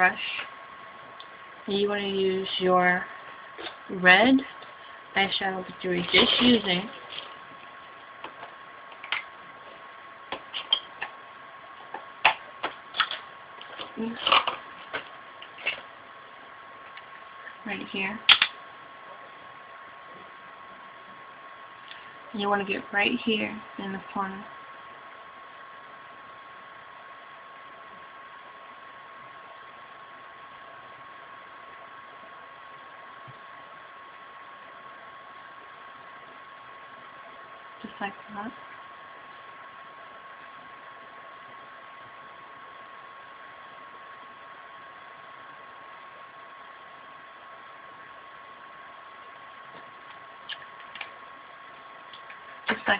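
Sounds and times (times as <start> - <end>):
faint high hum: 0.0 - 52.9
thin high whine: 0.0 - 52.9.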